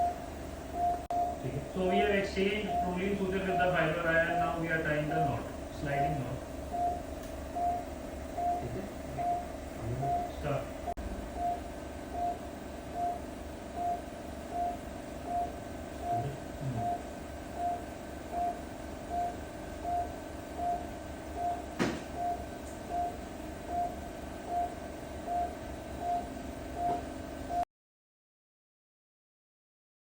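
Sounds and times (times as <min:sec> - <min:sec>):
constant machine hum: 0:00.0 - 0:27.6
patient monitor beeping: 0:00.0 - 0:27.6.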